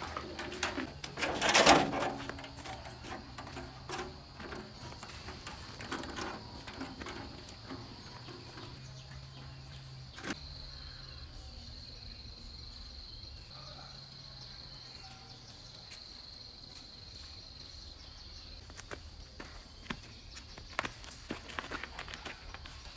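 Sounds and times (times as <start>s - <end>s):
insects buzzing: 0.0s - 22.9s.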